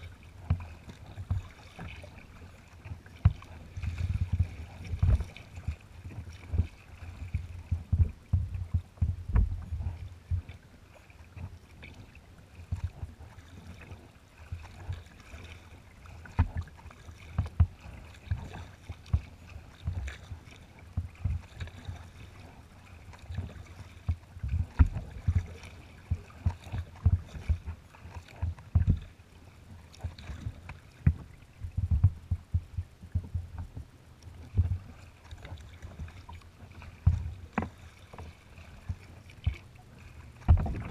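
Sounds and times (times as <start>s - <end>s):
waves slapping kayak hull: 0.0s - 40.9s.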